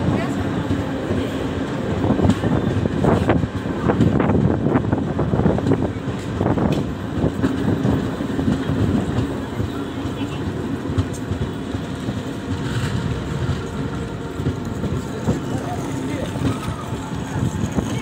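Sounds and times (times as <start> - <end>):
train clicks: 0.0 - 18.0
train wheels rumbling on rail: 0.0 - 18.0.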